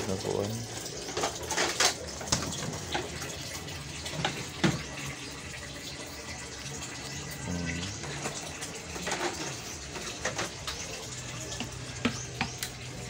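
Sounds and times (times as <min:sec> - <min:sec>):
water running: 0:00.0 - 0:13.0.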